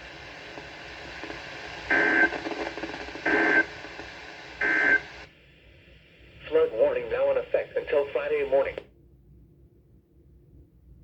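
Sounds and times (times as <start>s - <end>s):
steady radio hiss: 0.0s - 8.9s.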